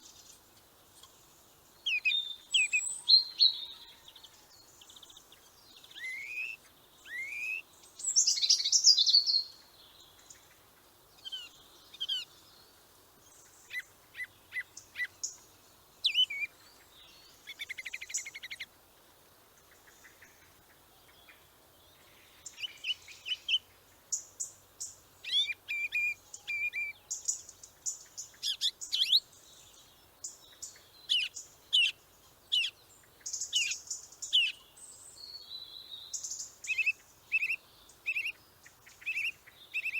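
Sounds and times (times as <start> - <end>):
small birds chirping: 0.0 - 18.8, 19.5 - 39.9.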